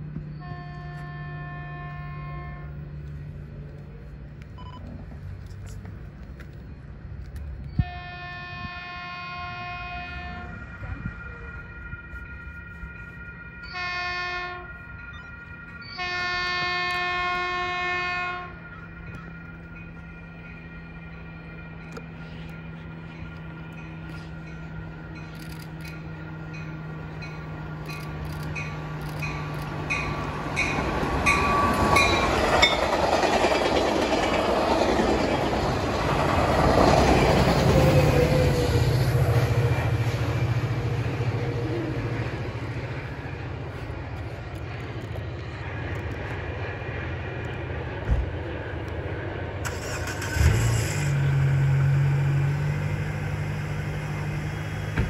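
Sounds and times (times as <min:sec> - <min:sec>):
diesel train passing: 0:00.0 - 0:55.0.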